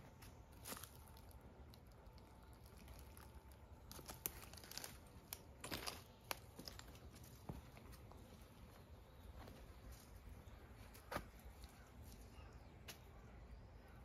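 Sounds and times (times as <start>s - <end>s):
rustling leaves and twigs: 0.0s - 13.2s.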